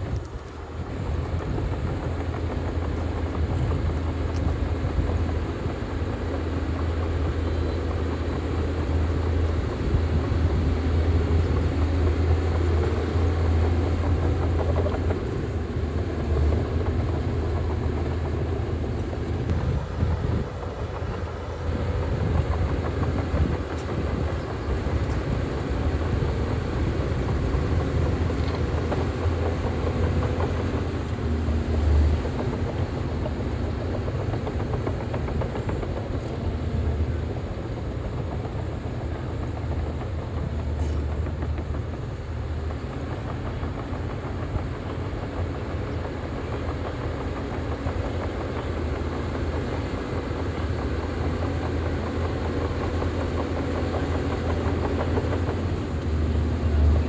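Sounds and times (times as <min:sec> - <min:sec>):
diesel machine engine rumble: 0:00.0 - 0:57.0.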